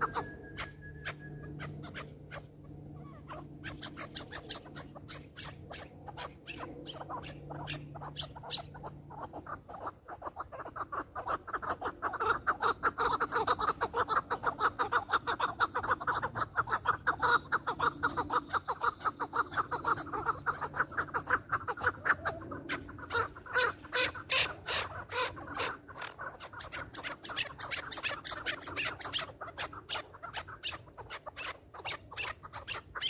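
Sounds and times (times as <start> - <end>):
partridge clucking calls: 0.0 - 33.0.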